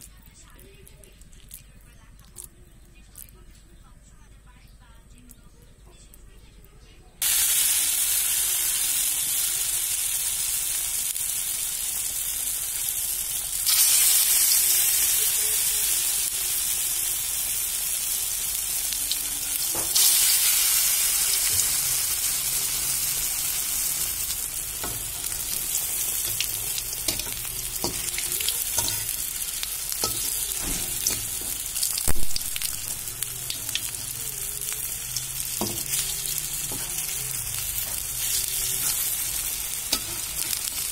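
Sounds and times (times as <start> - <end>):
fritters sizzling in hot oil: 7.2 - 40.9.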